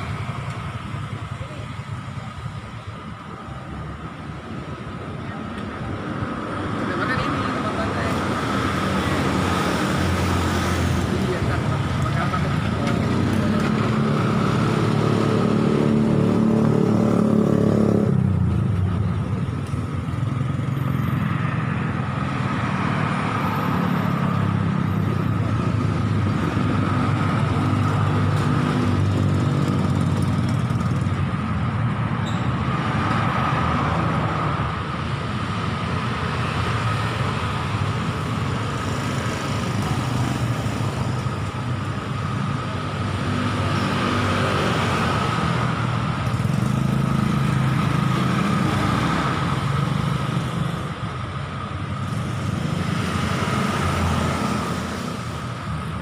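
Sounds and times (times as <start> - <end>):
motorcycles and cars passing: 0.0 - 56.0.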